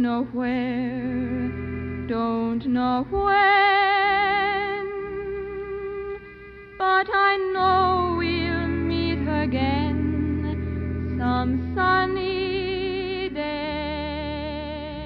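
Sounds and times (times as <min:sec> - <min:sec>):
background music with vibrato melody: 0:00.0 - 0:15.0.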